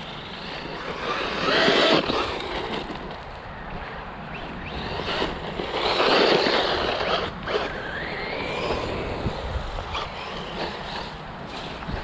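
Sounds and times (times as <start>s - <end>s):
electric motor whine: 0.0s - 12.0s
tires rushing on gravel: 0.0s - 12.0s.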